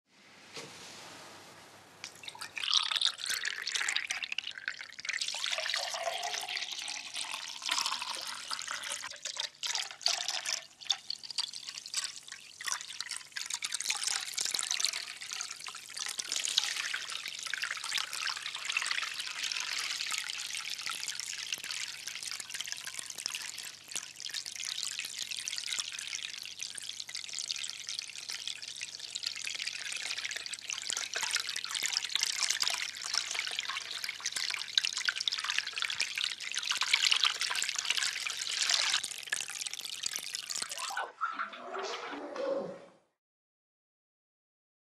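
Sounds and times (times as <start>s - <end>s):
liquid pouring into a glass: 2.0s - 41.1s
liquid trickling and dripping: 2.0s - 41.4s.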